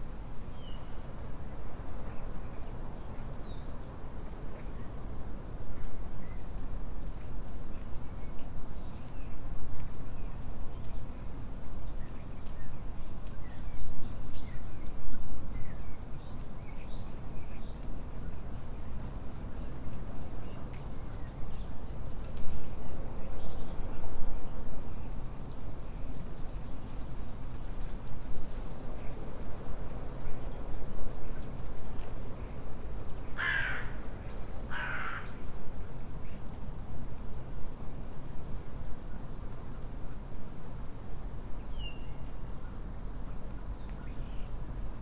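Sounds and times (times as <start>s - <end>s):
songbirds chirping: 2.1s - 37.0s, 41.4s - 45.0s.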